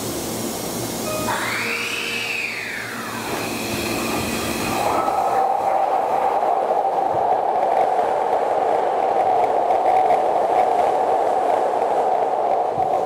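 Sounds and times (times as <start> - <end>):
electric train whine: 0.0 - 13.0
train running noise: 0.0 - 13.0.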